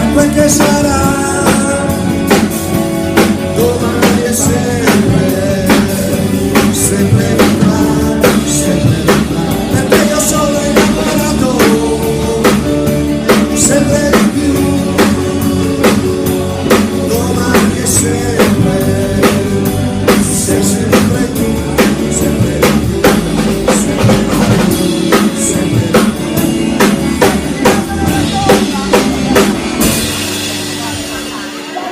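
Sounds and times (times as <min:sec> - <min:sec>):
drum kit beat: 0:00.0 - 0:31.9
rock band playing: 0:00.0 - 0:31.9.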